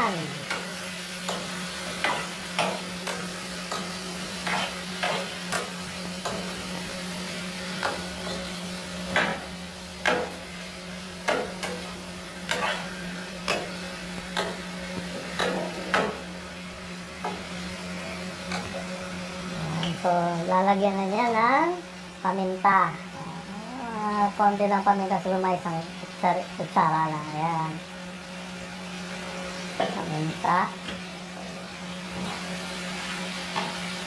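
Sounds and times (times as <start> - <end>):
food sizzling in frying pan: 0.0 - 34.0.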